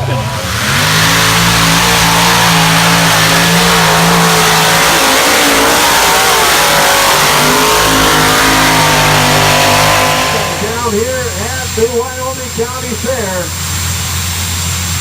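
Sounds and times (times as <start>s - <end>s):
engine running at high revs: 0.0s - 15.0s.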